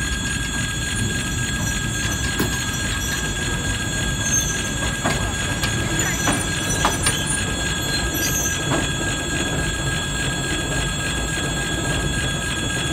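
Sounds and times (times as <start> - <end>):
diesel locomotive engine rumbling: 0.0 - 12.9
high engine whine: 0.0 - 12.9.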